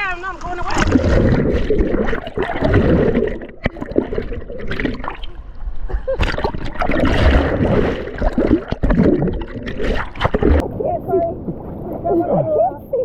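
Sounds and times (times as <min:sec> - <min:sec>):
river water splashing: 0:00.1 - 0:05.6, 0:06.2 - 0:13.0.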